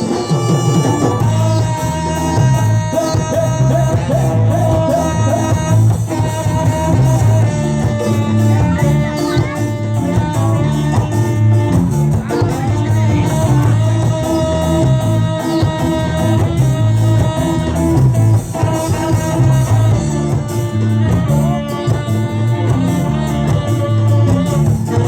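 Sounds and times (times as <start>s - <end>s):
driving bass rhythm: 0.0s - 25.0s
drum kit: 0.0s - 25.0s
guitar: 0.0s - 25.0s
ska band playing: 0.0s - 25.0s.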